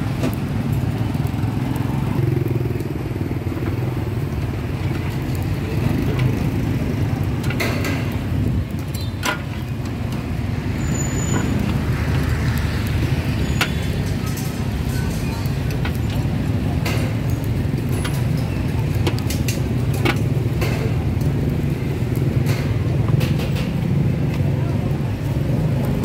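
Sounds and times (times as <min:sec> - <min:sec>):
street traffic: 0:00.0 - 0:26.0.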